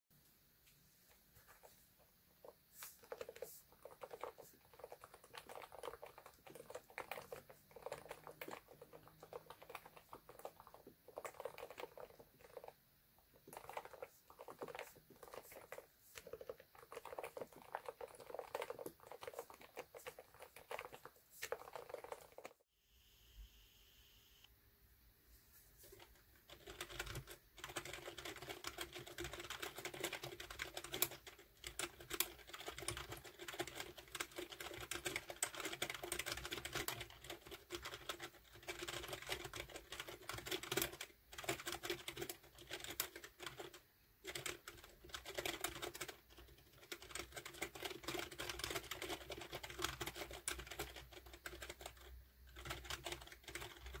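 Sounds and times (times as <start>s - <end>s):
fast keyboard typing: 2.4s - 22.6s, 26.0s - 54.0s.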